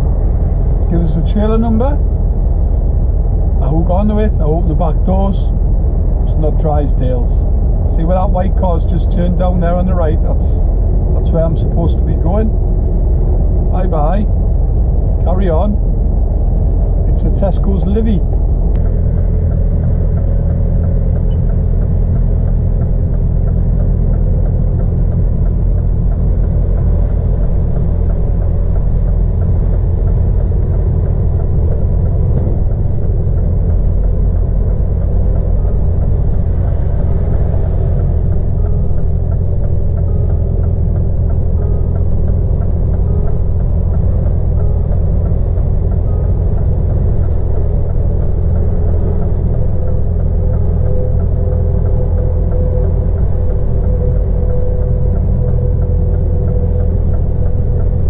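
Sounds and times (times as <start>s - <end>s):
diesel engine low rumble: 0.0s - 58.0s.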